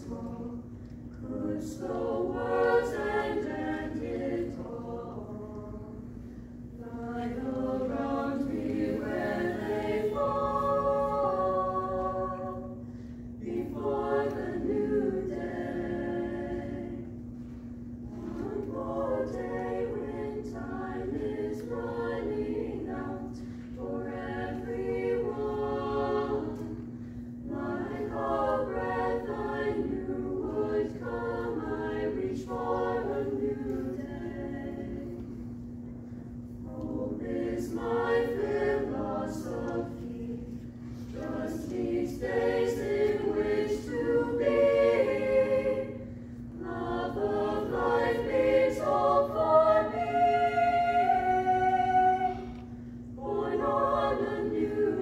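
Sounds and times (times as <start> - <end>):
chamber choir singing: 0.0 - 55.0.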